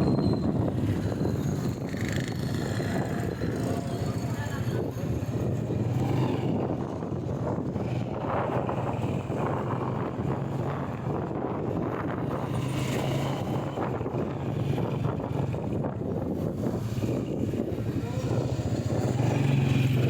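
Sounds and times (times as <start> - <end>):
wind buffeting microphone: 0.0 - 20.0
motorcycle engine running: 0.4 - 20.0.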